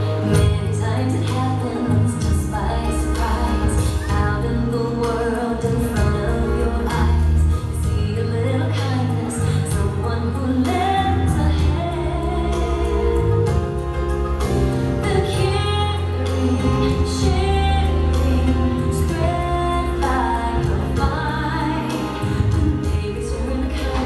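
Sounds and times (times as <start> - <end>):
woman singing over bass and beat: 0.0 - 24.0.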